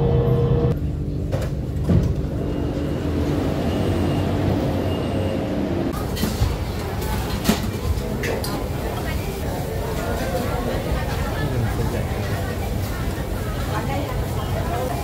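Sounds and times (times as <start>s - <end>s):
metro train rumble and hum: 0.0s - 15.0s.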